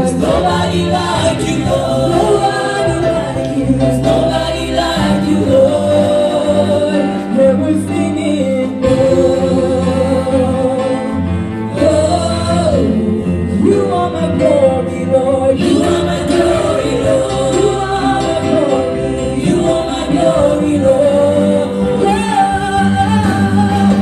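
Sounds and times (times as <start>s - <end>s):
low musical accompaniment: 0.0s - 24.0s
women singing worship song: 0.0s - 24.0s.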